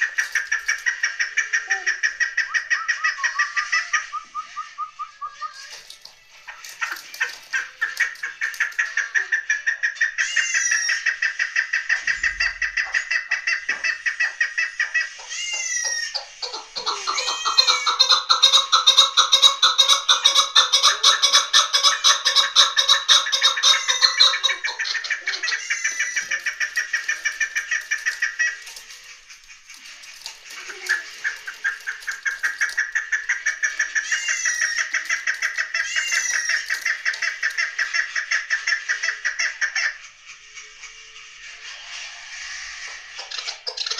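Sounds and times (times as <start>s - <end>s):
partridge calling: 0.0s - 5.8s, 6.4s - 39.9s.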